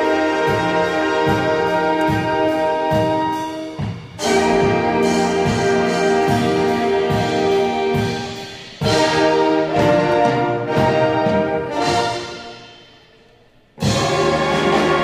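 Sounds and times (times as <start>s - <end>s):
funk band with saxophones: 0.0s - 12.9s.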